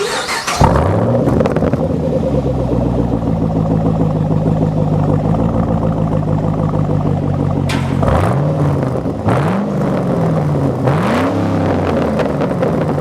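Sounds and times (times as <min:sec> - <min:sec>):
loud car engine revving: 0:00.0 - 0:13.0.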